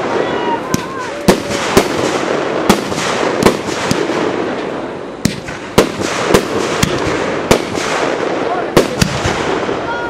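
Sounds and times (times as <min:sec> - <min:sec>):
firework shells bursting: 0:00.7 - 0:09.8.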